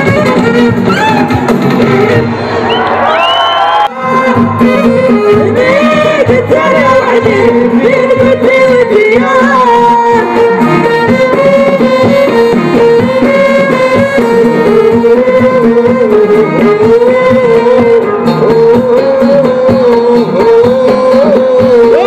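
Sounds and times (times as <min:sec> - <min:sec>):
band with hand percussion and drums: 0:00.0 - 0:03.2, 0:03.9 - 0:22.0.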